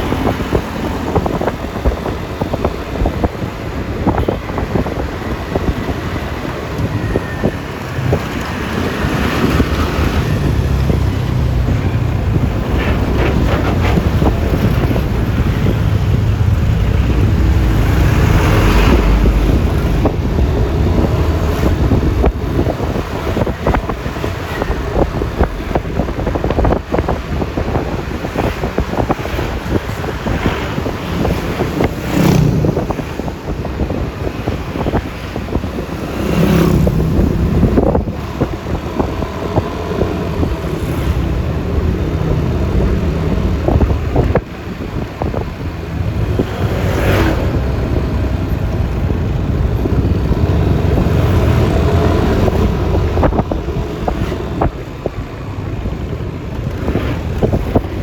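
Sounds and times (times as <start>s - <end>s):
road and traffic noise: 0.0s - 58.0s
wind rushing over microphone: 0.0s - 58.0s.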